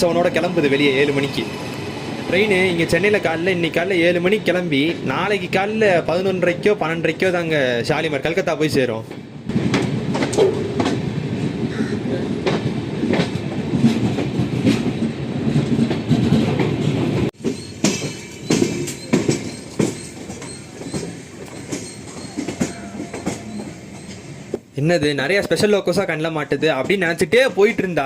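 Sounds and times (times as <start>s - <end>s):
train wheels rumbling and clicking: 0.0s - 28.0s.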